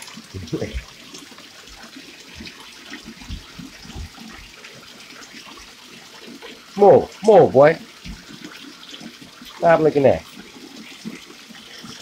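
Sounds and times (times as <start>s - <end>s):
water running in a bathtub: 0.0s - 12.0s.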